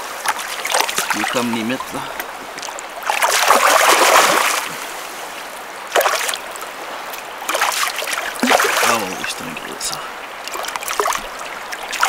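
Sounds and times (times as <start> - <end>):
water splashing in landing net: 0.0 - 5.1, 5.9 - 12.0
flowing river: 0.0 - 12.0.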